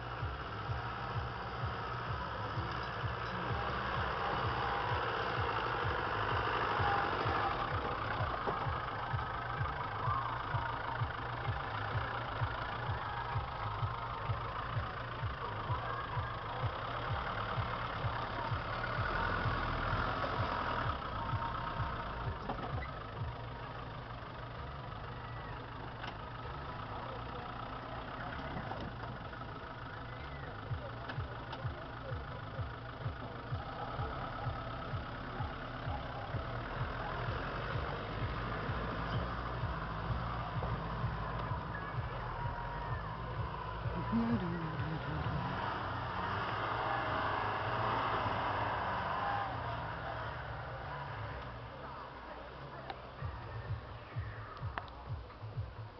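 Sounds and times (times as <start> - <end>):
off-road engine at low revs: 0.0 - 55.9.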